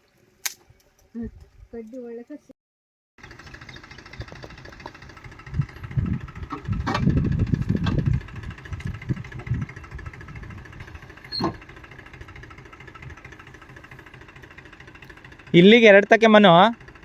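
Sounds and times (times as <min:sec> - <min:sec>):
diesel engine running: 0:03.2 - 0:17.0.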